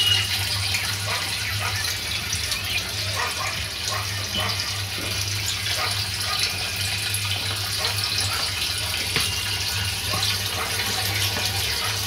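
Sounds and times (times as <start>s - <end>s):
water pouring into a tank: 0.0s - 12.0s.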